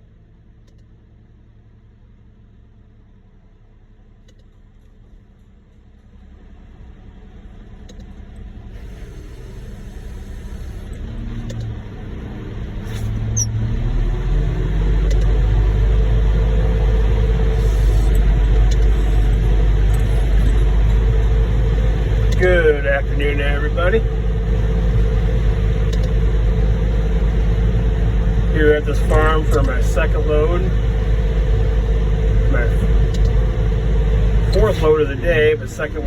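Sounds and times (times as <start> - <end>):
diesel engine low rumble: 0.0 - 36.0.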